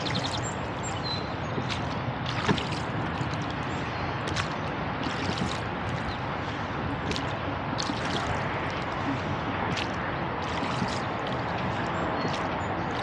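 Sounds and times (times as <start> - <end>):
oars splashing through water: 0.0 - 13.0.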